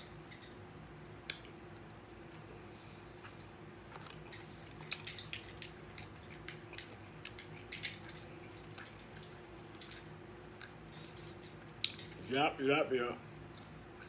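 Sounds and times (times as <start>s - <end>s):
faint steady hum: 0.0s - 14.0s
person chewing food: 1.3s - 12.2s, 13.4s - 14.0s.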